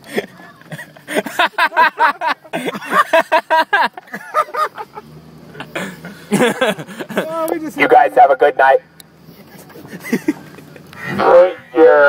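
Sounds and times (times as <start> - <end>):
men laughing: 0.0 - 7.8, 9.2 - 11.3.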